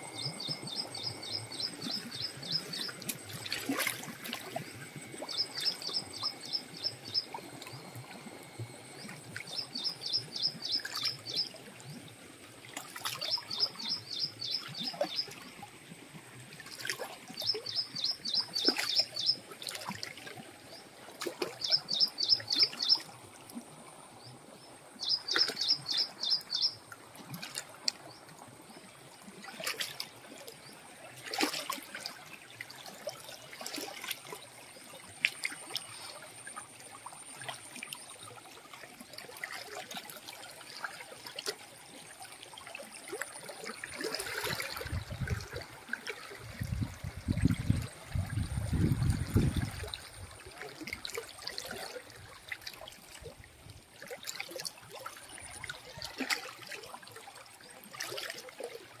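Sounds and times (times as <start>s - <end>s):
stream flowing over stones: 0.0s - 59.0s.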